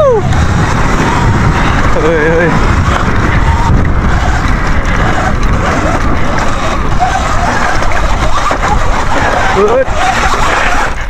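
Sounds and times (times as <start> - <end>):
bike rattling and knocking: 0.0 - 11.0
wind rumble on microphone: 0.0 - 11.0.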